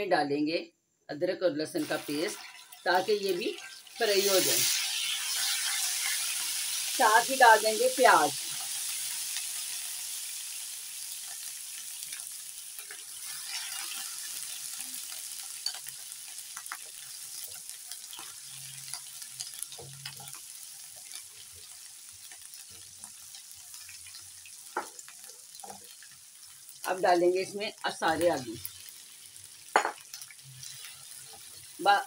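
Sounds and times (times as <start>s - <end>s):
onions sizzling in oil: 1.6s - 32.0s.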